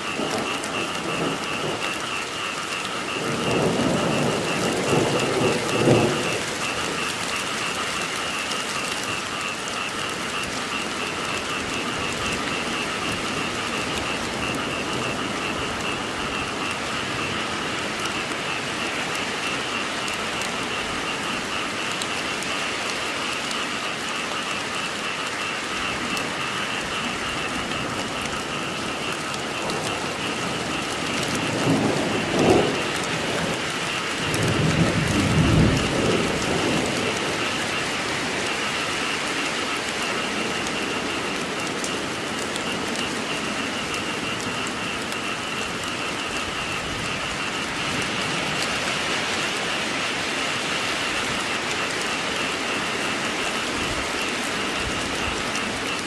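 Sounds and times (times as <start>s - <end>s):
frogs calling: 0.0s - 56.0s
heavy rain falling: 0.0s - 56.0s
thunder rumbling: 0.0s - 56.0s.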